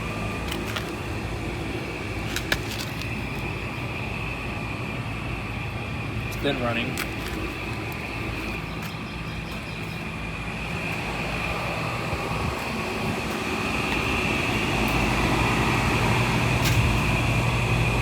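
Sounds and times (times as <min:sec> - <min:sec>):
air conditioning unit humming: 0:00.0 - 0:18.0.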